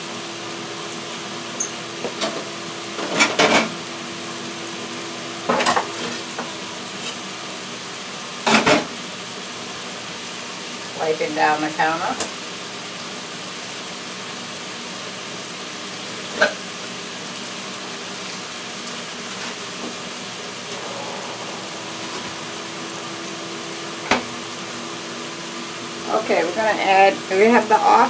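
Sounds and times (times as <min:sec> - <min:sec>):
vegetables sizzling in a pan: 0:00.0 - 0:28.0.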